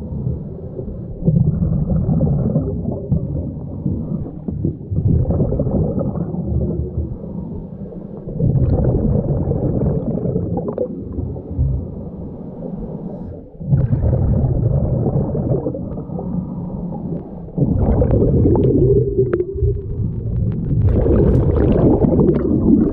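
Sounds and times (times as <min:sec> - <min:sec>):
underwater exhaled bubbles: 0:00.0 - 0:22.9.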